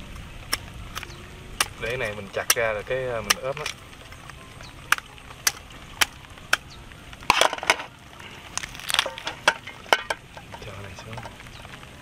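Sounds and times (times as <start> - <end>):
bone cracking: 0.1 - 10.7.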